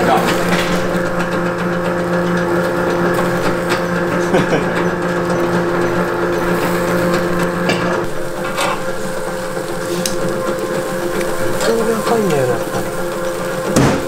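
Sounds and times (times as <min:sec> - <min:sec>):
rotisserie motor hum: 0:00.0 - 0:14.0.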